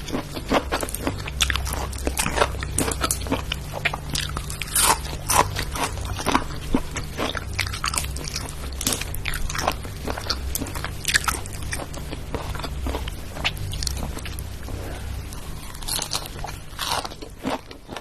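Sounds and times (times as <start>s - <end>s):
chewing crunchy food: 0.0s - 18.0s.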